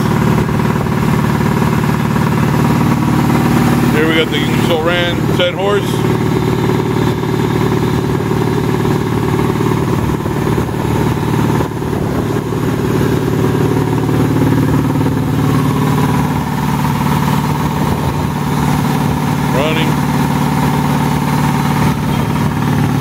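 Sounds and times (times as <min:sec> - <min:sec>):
air compressor humming: 0:00.0 - 0:23.0.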